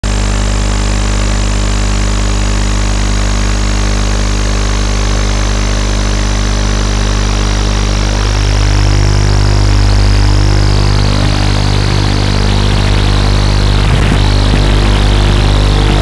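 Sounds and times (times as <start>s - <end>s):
drone motors buzzing whine: 0.1s - 16.0s.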